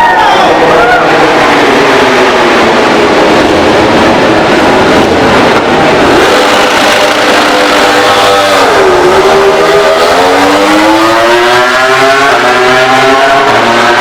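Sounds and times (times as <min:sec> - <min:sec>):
racing motorcycle engine accelerating: 0:00.0 - 0:14.0.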